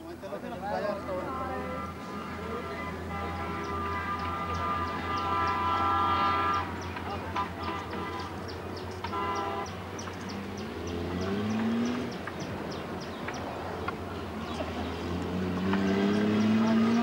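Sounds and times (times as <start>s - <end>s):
vehicle engine running: 1.1s - 17.0s.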